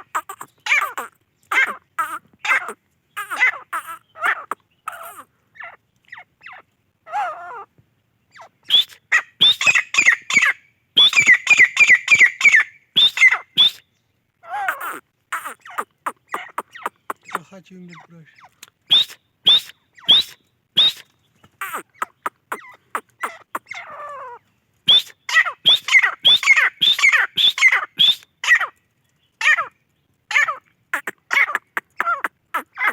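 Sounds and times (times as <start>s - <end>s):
francolin calling: 0.0s - 7.6s, 8.3s - 13.8s, 14.4s - 28.7s, 30.3s - 32.9s.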